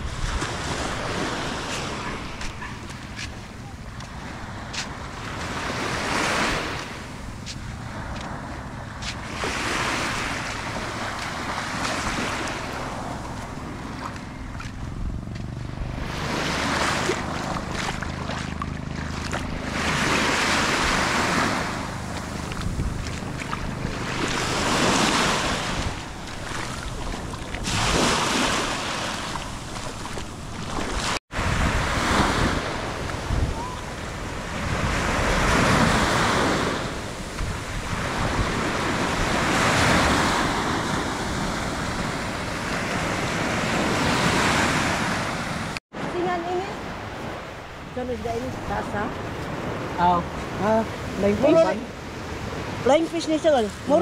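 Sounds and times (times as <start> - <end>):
small waves washing onto shore: 0.0 - 54.0.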